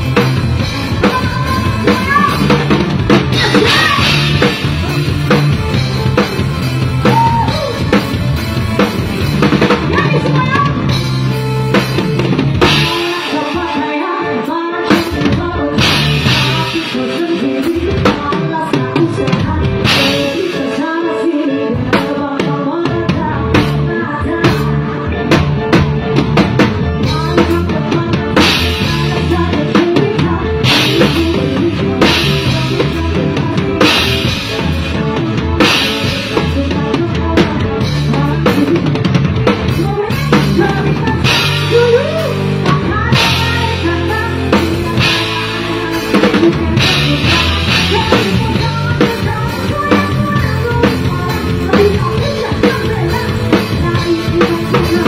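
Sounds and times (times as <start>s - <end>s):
person singing: 0.0s - 8.2s, 12.6s - 25.9s, 27.0s - 55.0s
drum kit beat: 0.0s - 55.0s
live rock band playing: 0.0s - 55.0s.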